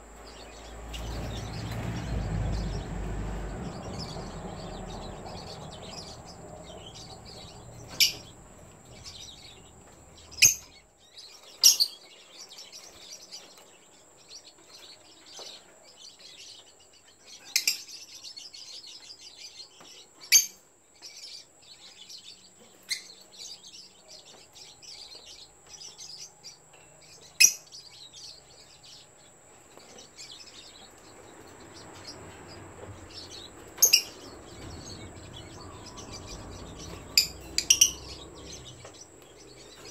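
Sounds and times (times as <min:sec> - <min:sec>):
lovebirds shrill chirps: 0:03.6 - 0:29.1, 0:29.7 - 0:39.9.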